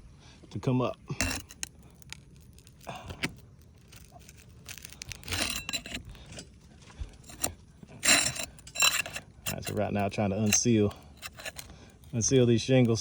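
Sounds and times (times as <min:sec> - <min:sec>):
metal tool scraping shingles: 0:01.1 - 0:06.6, 0:07.2 - 0:13.0.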